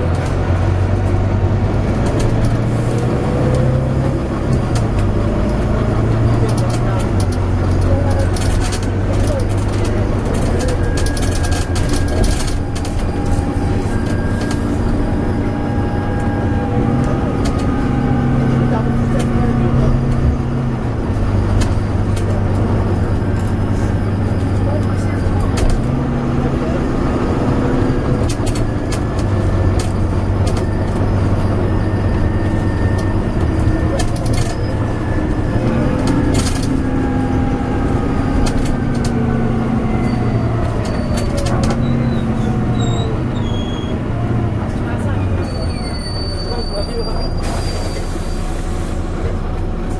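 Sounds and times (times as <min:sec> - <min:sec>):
bus engine hum with whine: 0:00.0 - 0:49.9.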